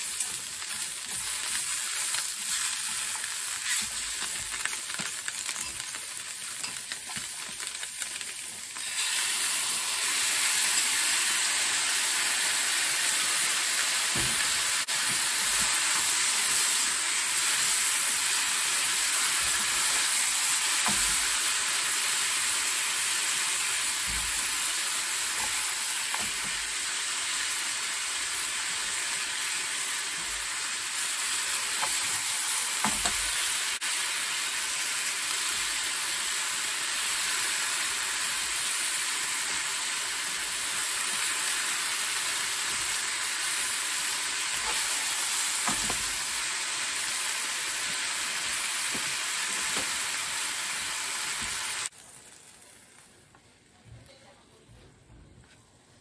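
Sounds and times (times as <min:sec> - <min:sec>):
food sizzling in a frying pan: 0:00.0 - 0:54.4.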